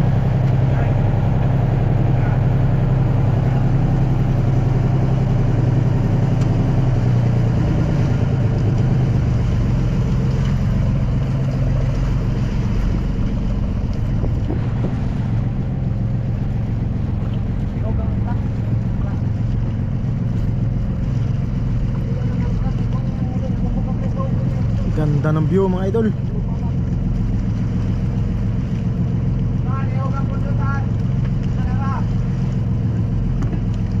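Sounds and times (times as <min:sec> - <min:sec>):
motorboat engine humming: 0:00.0 - 0:34.0.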